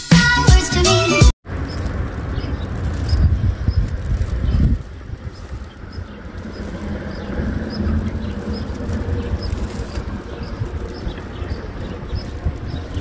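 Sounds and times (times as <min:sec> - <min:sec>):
small bird chirping: 0:01.5 - 0:13.0
steady low rumble: 0:01.5 - 0:13.0.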